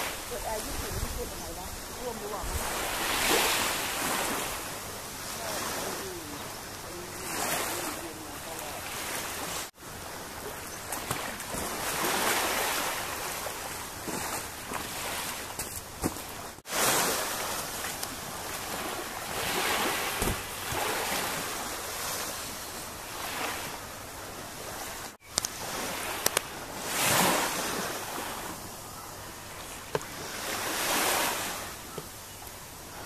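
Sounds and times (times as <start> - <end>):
waves washing on sandy beach: 0.0 - 33.0.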